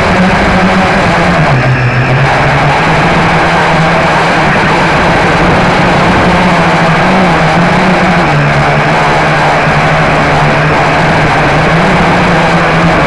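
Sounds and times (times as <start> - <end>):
propeller rushing noise: 0.0 - 13.0
quadcopter motors humming: 0.0 - 13.0.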